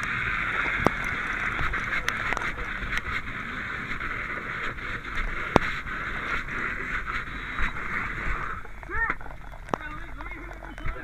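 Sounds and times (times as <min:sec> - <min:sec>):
sharp clicks and cracks: 0:00.0 - 0:11.0.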